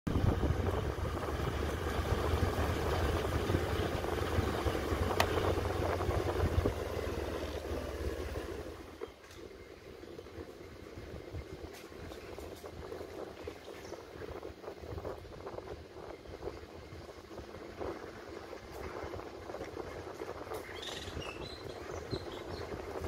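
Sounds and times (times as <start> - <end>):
motorcycle engine rumble: 0.1 - 23.0
wind buffeting microphone: 0.1 - 23.0.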